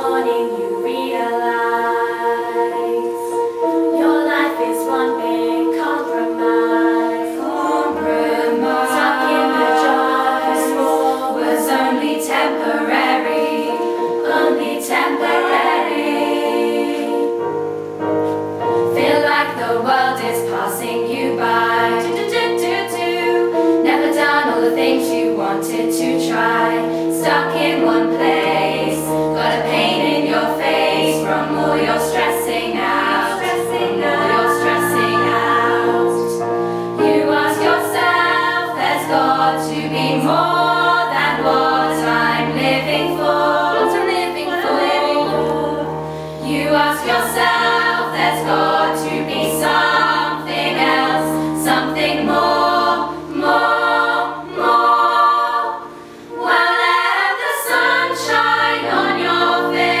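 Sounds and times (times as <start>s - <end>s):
choir singing: 0.0s - 60.0s.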